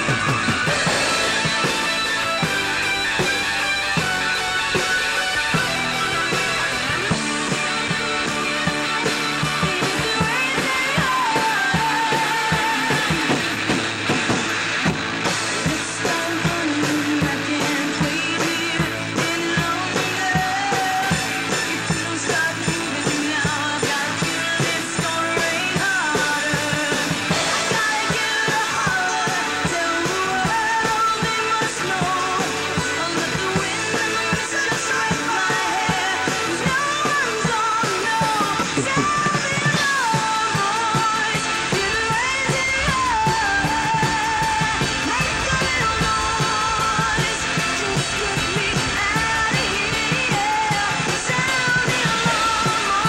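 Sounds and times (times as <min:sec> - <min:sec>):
person singing: 0:00.0 - 0:13.8, 0:15.3 - 0:53.0
drum kit beat: 0:00.0 - 0:53.0
rock band playing: 0:00.0 - 0:53.0.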